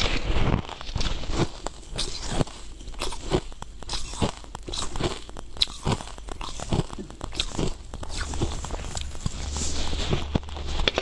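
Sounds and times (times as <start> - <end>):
chewing crunching ice: 0.0 - 11.0.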